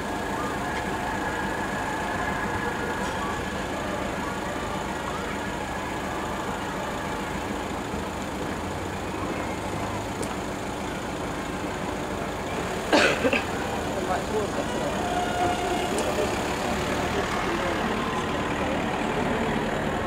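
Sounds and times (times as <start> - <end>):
helicopter flying by: 0.0 - 20.0
piston aircraft engine droning: 0.0 - 20.0.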